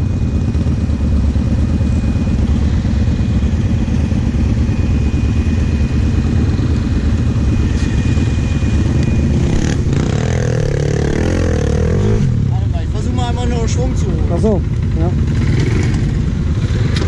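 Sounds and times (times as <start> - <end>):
quad engine idling: 0.0 - 17.0.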